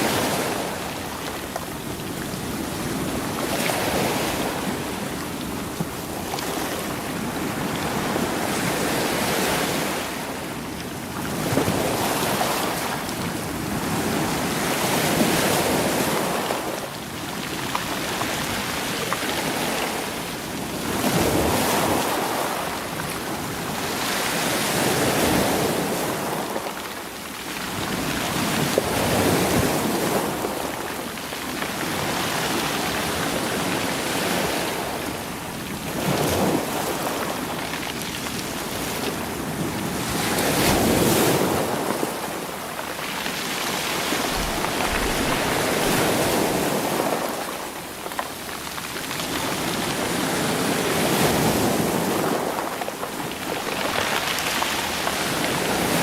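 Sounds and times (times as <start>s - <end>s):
waves washing over stony shore: 0.0s - 56.0s.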